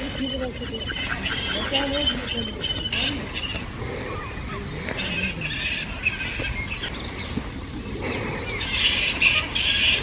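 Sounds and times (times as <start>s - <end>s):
wetland birds chirping and calling: 0.0s - 10.0s.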